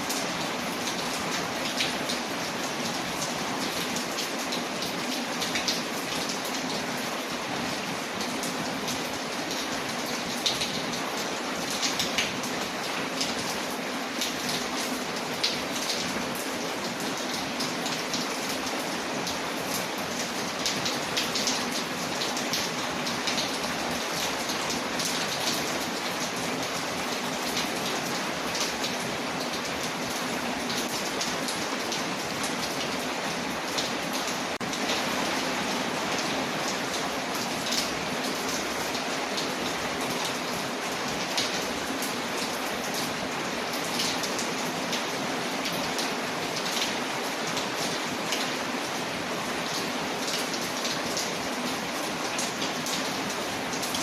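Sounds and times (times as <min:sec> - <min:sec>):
rain falling on a window: 0:00.0 - 0:54.0.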